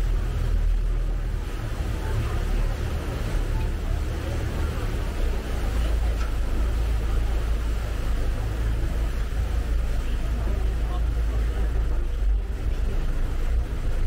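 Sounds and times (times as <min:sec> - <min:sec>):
boat engine drone: 0:00.0 - 0:14.0
steady wash of noise: 0:00.0 - 0:14.0.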